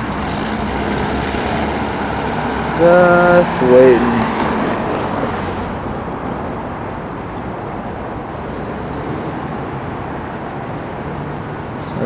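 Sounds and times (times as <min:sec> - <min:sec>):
road and wind noise: 0:00.0 - 0:12.0
vehicle engine: 0:00.0 - 0:12.0.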